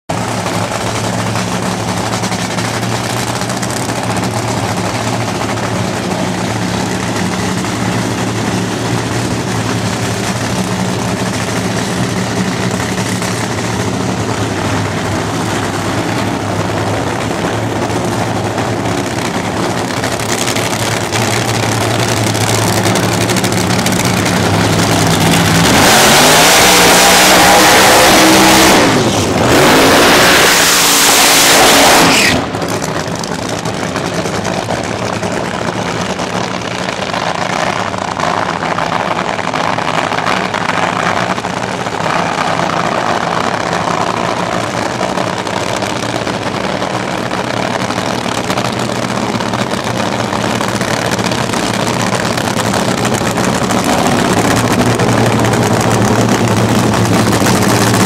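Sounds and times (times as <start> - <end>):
dragster engines idling: 0.1 - 30.4, 32.1 - 58.0
car burnout engine roar: 0.1 - 58.0.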